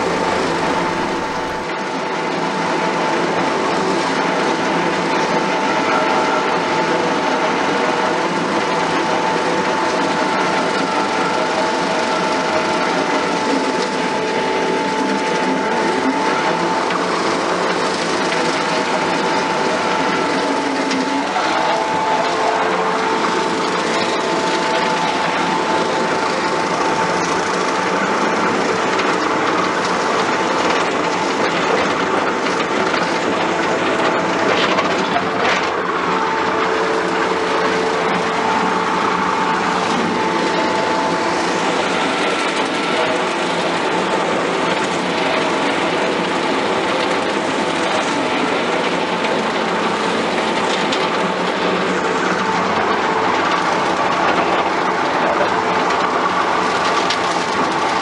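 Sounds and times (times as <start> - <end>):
machine whine: 0.0 - 58.0
skid steer mowing: 0.0 - 58.0.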